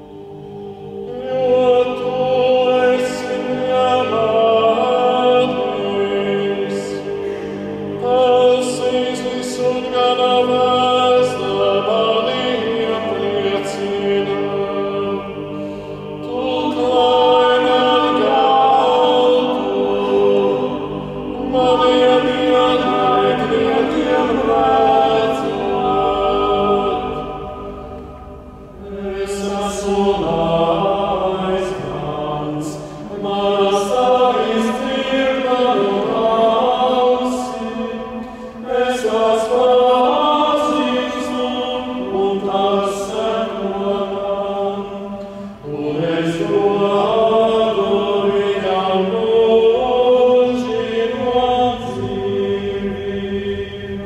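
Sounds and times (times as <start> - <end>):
male choir chanting unaccompanied: 0.0 - 54.0.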